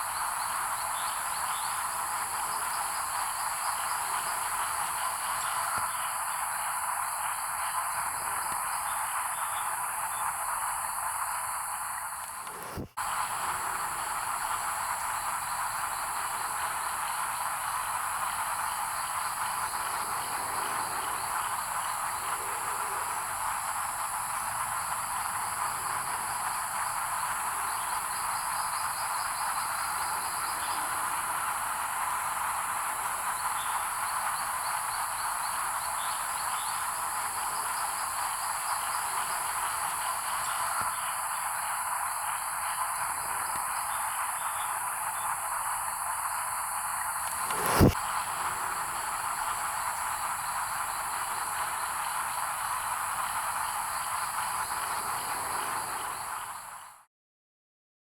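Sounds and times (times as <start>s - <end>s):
chorus of tree frogs calling: 0.0s - 56.9s
steady high-pitched hiss: 0.0s - 57.1s.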